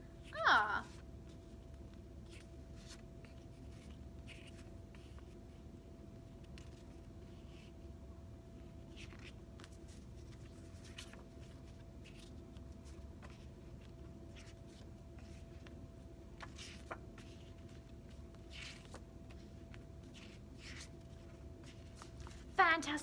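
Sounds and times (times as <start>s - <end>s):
faint steady hum: 0.0s - 23.0s
soft rustles and scrapes: 0.9s - 23.0s.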